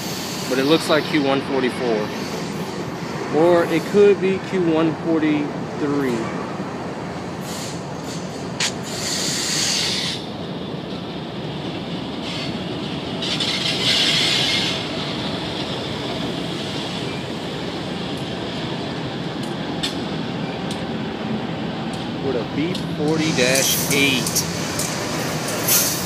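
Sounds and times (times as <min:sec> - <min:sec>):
diesel locomotive engines running: 0:00.0 - 0:26.0
train wheels rumbling on rails: 0:00.0 - 0:26.0.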